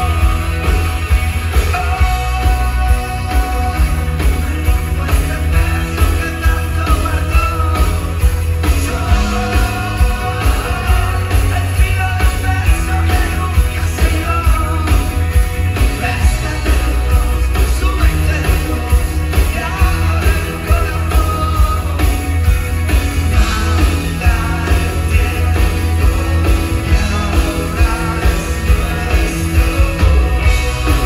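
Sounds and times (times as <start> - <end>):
rock music with heavy bass: 0.0 - 31.0.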